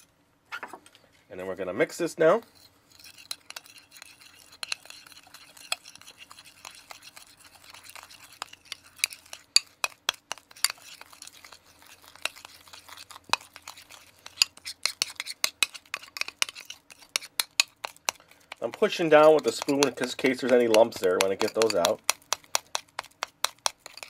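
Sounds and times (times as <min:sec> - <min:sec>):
spoon stirring batter in glass bowl: 0:02.5 - 0:24.0.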